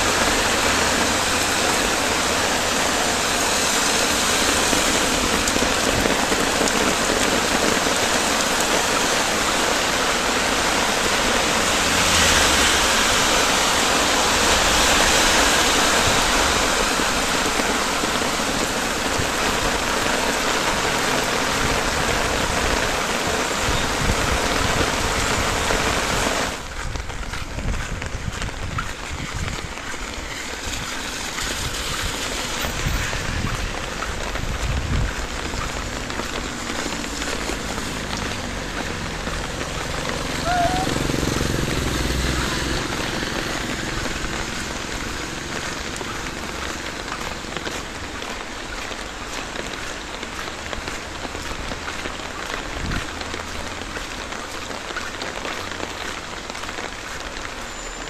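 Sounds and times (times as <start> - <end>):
heavy rain on a flooded street: 0.0 - 58.0.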